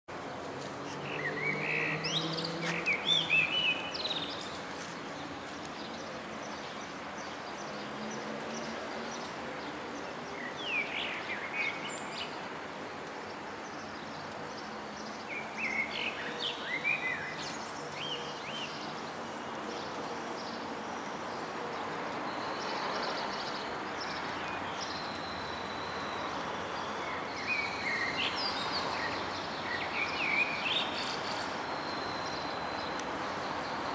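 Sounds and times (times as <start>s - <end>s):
city background noise: 0.1s - 33.9s
small birds chirping: 0.5s - 33.9s.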